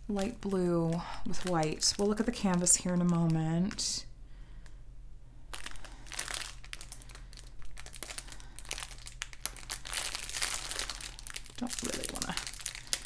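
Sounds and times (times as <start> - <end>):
plastic bags crinkling: 0.0 - 4.0, 5.5 - 13.0.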